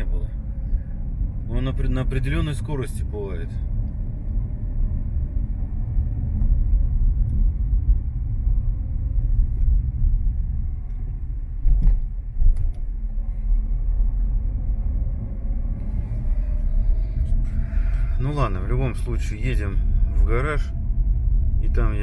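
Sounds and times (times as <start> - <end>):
road and tyre rumble in car: 0.0 - 22.0.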